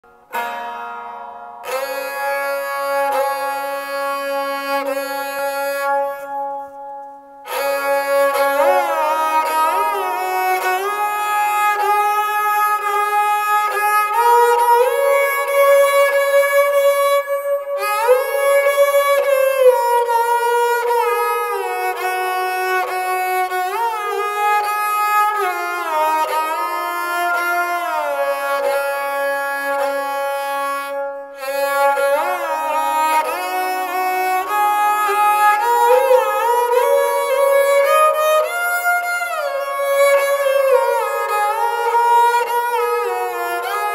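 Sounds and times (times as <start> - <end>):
bowed string instrument melody: 0.0 - 43.9.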